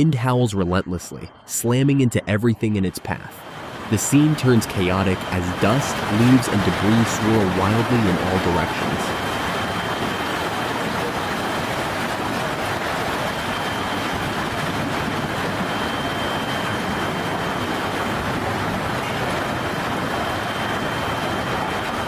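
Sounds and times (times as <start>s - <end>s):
strong wind rushing: 3.0s - 22.0s.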